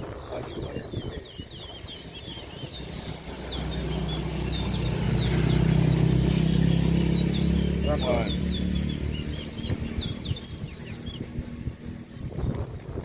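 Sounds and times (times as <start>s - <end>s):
finches chirping: 0.0s - 13.0s
vehicle engine hum: 0.0s - 13.0s.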